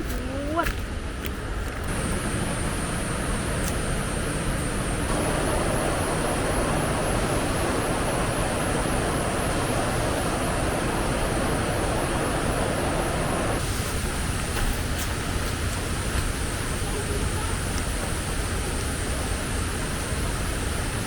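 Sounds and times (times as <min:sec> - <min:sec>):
strong wind on microphone: 0:01.4 - 0:21.0.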